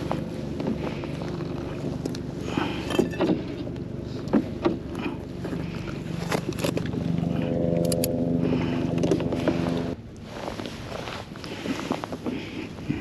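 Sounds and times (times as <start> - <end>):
steady motor hum: 0.0 - 13.0.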